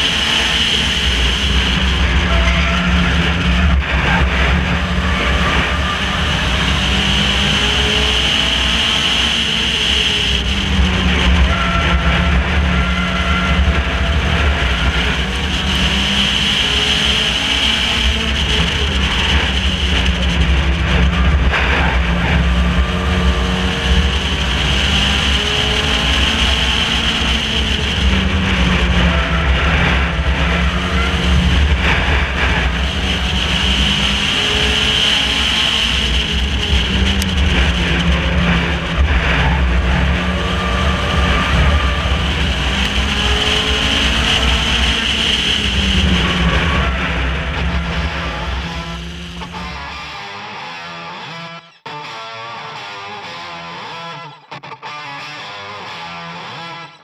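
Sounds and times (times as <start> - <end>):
race car engine revving: 0.0 - 51.6
road and wind noise: 0.0 - 51.8.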